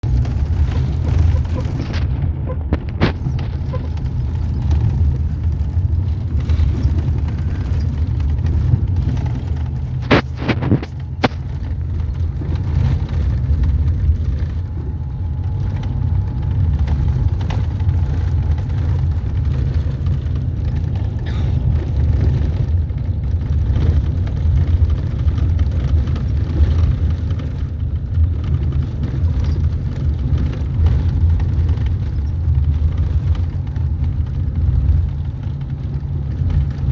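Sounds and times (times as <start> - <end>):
vehicle road and engine rumble: 0.0 - 36.9.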